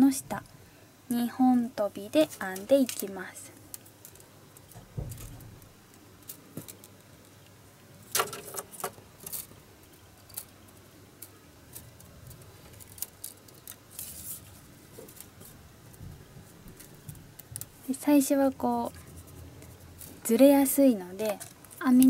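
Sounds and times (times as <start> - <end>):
bamboo strips clicking and rustling: 2.3 - 22.0.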